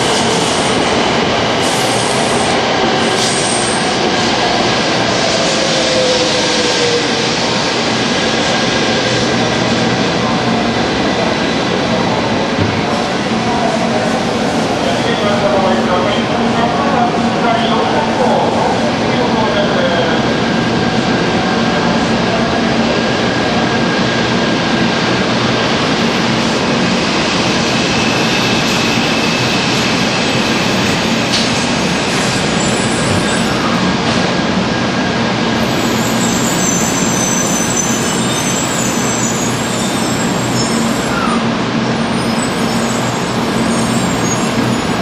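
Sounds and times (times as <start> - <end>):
train rushing along platform: 0.0 - 45.0.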